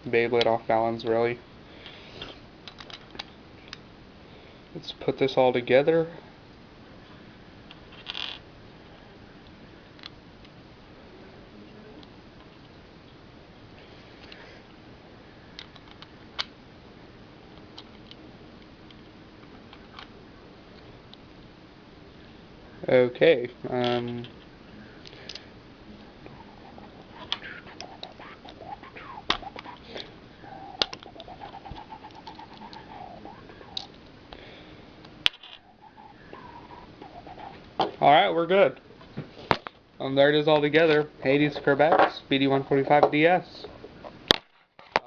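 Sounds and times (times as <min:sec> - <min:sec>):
faint wavering whine: 0:00.0 - 0:44.3
low hiss: 0:00.0 - 0:44.4.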